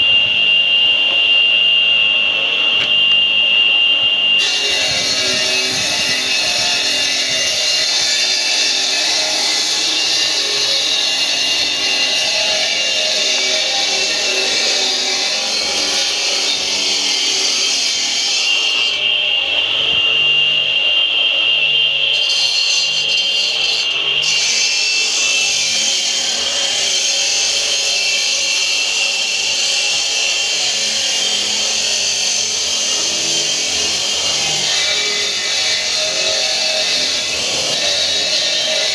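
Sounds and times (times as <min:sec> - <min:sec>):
power tool cutting stone: 0:04.4 - 0:38.9.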